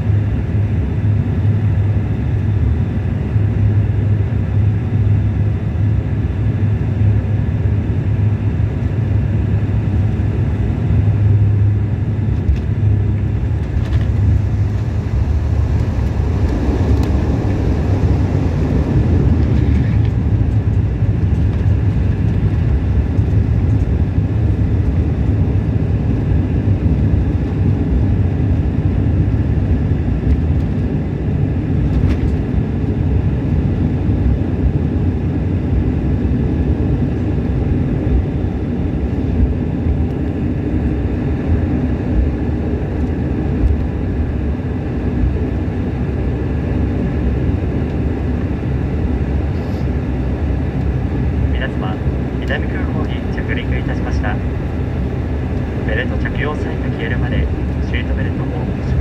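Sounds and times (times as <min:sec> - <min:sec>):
turboprop engines rumbling: 0:00.0 - 0:59.0.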